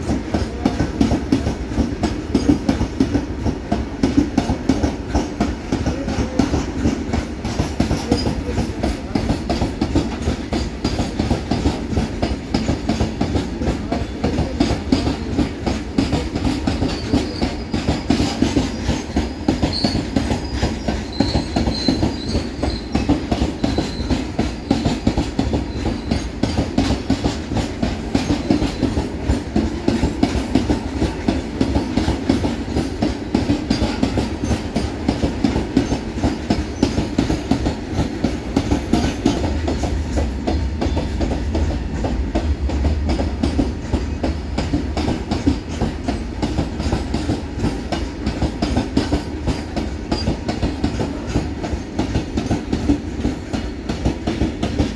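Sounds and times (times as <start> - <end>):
freight train wheels clattering: 0.0 - 54.9.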